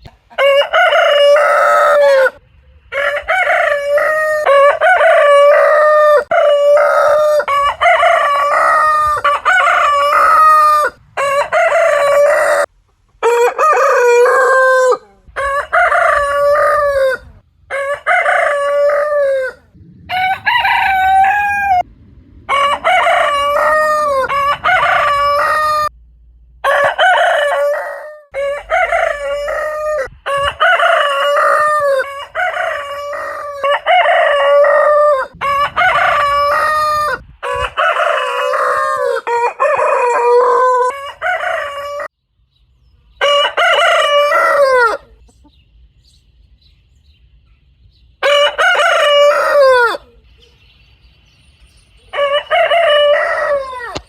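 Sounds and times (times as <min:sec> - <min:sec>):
rooster crowing: 0:00.3 - 0:21.9, 0:22.5 - 0:25.9, 0:26.6 - 0:42.1, 0:43.2 - 0:45.2, 0:48.2 - 0:50.2, 0:52.1 - 0:54.0.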